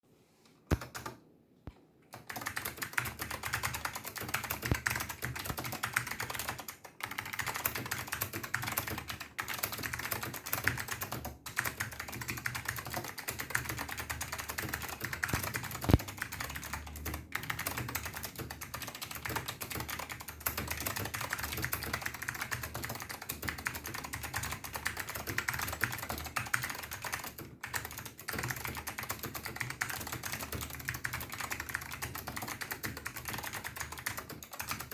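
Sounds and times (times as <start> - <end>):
fast keyboard typing: 0.7 - 1.2, 2.1 - 34.9.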